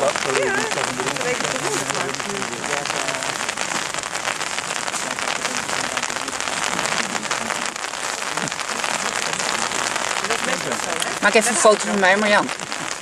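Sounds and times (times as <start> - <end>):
raindrops ticking on surface: 0.0 - 13.0
steady rain falling: 0.0 - 13.0.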